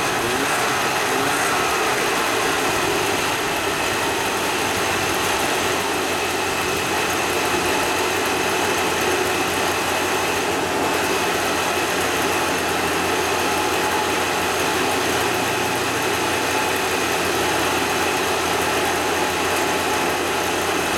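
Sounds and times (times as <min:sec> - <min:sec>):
two-stroke engine running: 0:00.0 - 0:20.9.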